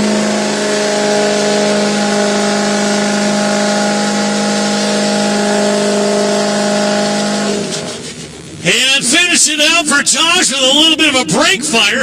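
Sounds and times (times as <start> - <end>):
tires spinning on pavement: 0.0 - 9.8
engine at high revs: 0.0 - 12.0.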